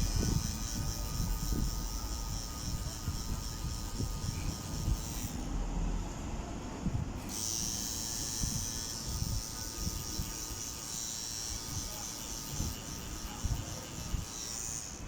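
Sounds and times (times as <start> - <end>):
tattoo machine buzzing: 0.0 - 5.7, 7.2 - 15.0.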